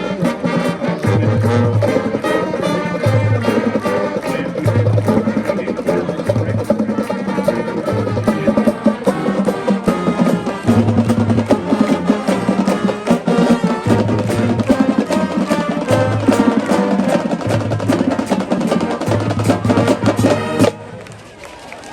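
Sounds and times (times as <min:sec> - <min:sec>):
drumline beat: 0:00.0 - 0:21.0
marching band playing: 0:00.0 - 0:21.7.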